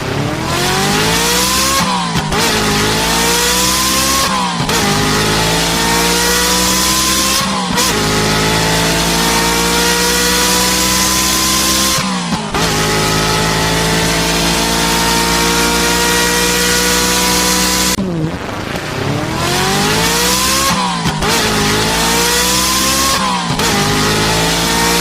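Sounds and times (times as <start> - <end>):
car engine accelerating through gears: 0.0 - 25.0.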